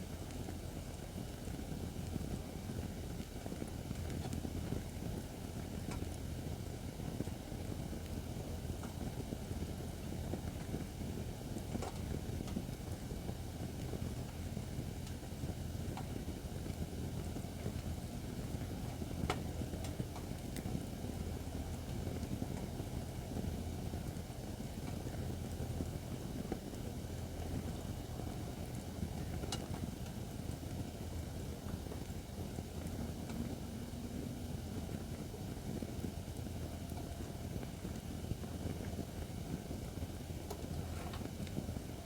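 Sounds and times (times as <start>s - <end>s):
fire crackles and pops: 0.0s - 42.0s
low rush of flame: 0.0s - 42.0s.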